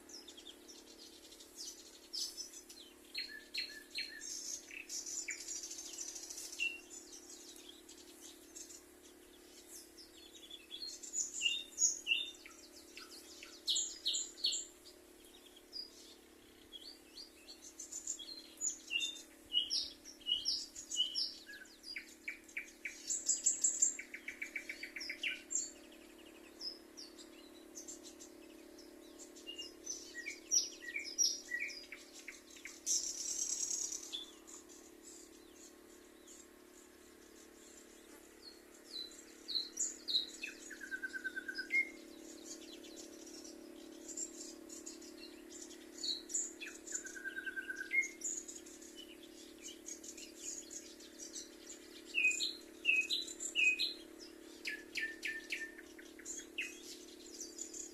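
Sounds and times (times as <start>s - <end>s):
songbirds chirping and singing: 0.0s - 57.9s.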